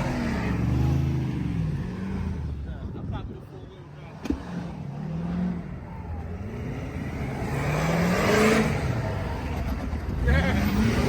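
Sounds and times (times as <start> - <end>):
vehicle engine revving: 0.0 - 2.9, 3.9 - 11.0.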